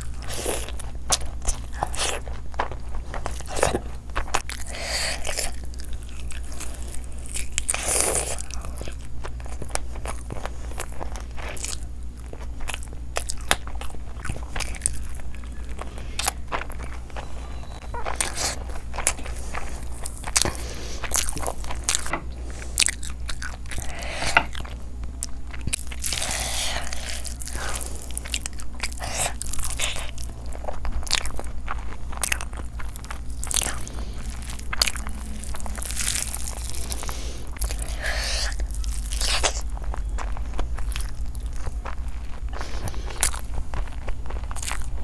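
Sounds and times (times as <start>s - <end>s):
person chewing wetly: 0.0s - 45.0s.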